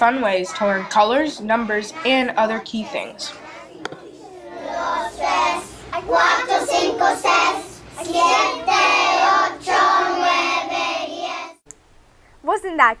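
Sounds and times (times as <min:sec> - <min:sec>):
children singing: 0:00.2 - 0:11.6.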